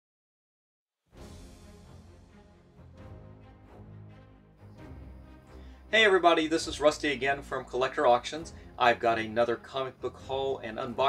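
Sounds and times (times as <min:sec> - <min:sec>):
soft intro music: 0:01.1 - 0:11.0.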